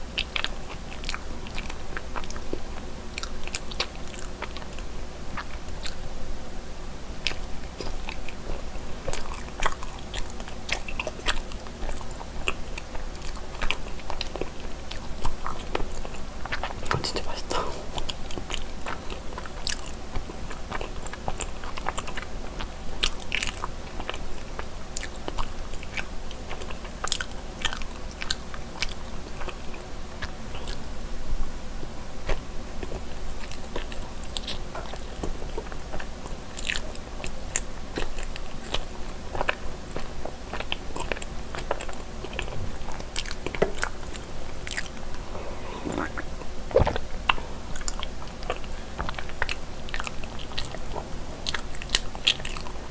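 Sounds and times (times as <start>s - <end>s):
wet sticky chewing: 0.1s - 6.0s, 7.2s - 31.1s, 32.2s - 52.9s.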